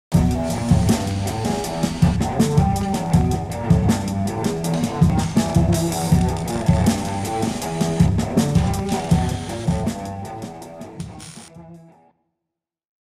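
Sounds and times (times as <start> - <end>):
instrumental rock music: 0.1 - 11.9.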